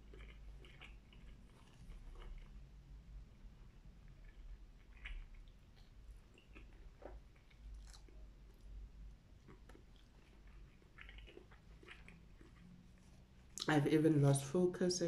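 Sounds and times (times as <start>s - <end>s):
faint chewing: 0.0s - 13.7s.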